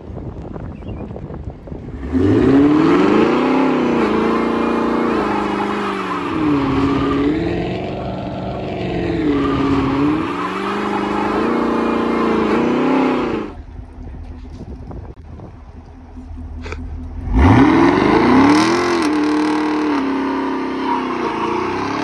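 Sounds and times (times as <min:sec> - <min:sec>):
car engine revving: 0:01.8 - 0:22.0
tyres spinning: 0:02.4 - 0:22.0.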